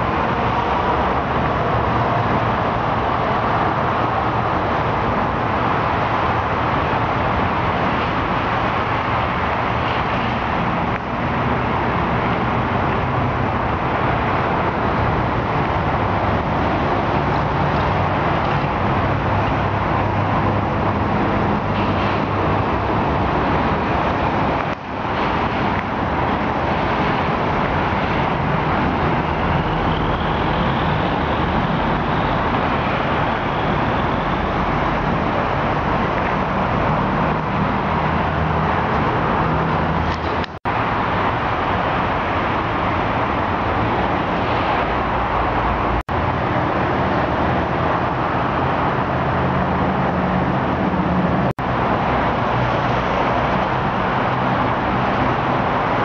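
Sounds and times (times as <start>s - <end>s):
road traffic hum: 0.0s - 56.0s.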